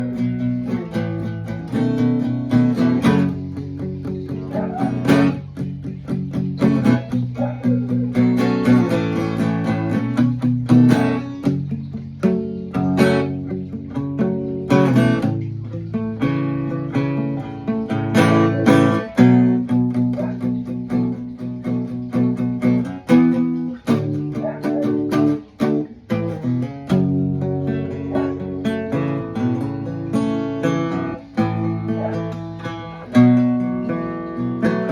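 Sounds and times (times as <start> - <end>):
guitar plucked notes and chords: 0.0 - 34.9.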